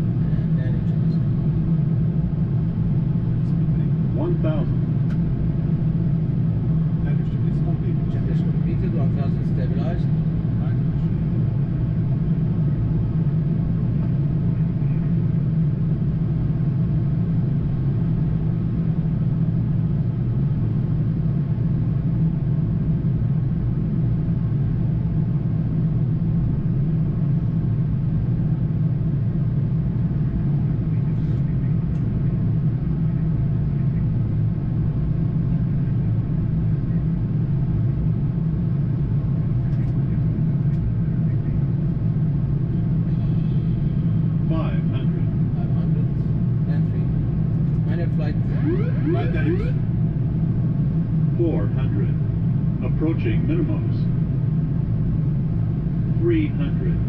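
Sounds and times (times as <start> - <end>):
airflow and engine rumble: 0.0 - 57.0.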